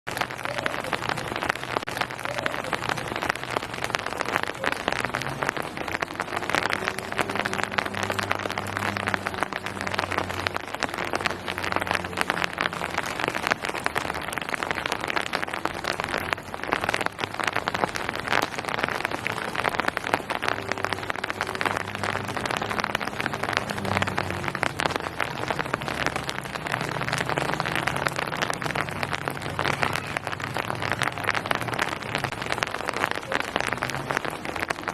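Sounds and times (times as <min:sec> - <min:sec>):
rain on hard surfaces: 0:00.0 - 0:34.9.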